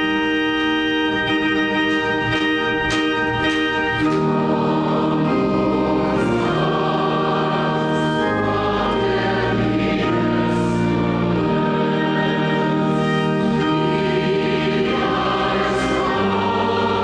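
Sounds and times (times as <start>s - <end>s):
organ chords: 0.0s - 17.0s
voices singing a hymn: 1.1s - 17.0s.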